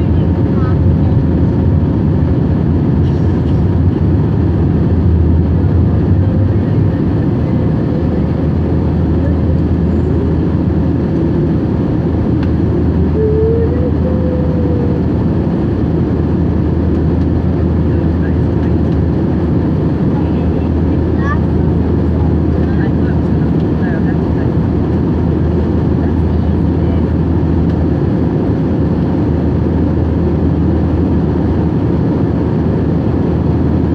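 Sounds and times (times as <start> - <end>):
airliner cabin engine rumble: 0.0 - 33.9.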